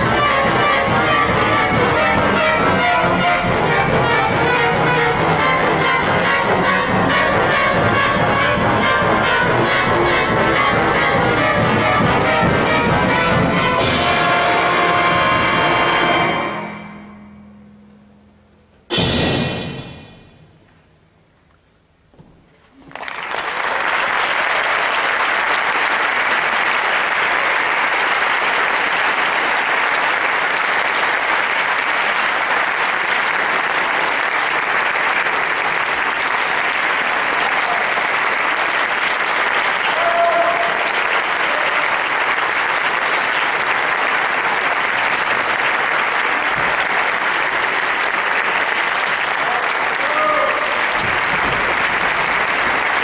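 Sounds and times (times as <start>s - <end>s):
audience applauding: 0.0s - 13.9s, 22.7s - 53.0s.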